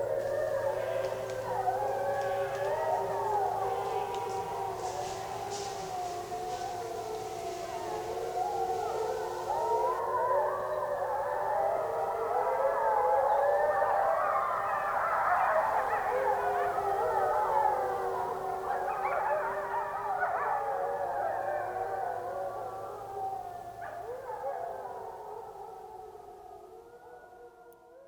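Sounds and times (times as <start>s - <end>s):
wolves howling in chorus: 0.0s - 28.0s.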